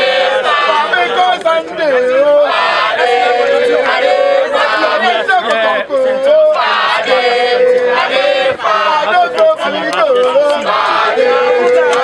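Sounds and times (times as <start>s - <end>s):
men singing a chant: 0.0s - 12.0s.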